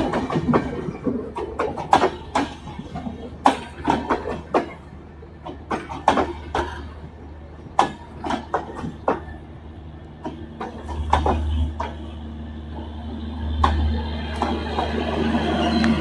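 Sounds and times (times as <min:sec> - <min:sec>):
train wheels knocking and clattering: 0:00.0 - 0:09.4, 0:10.2 - 0:12.2, 0:13.5 - 0:16.0
train low rumble: 0:00.0 - 0:16.0.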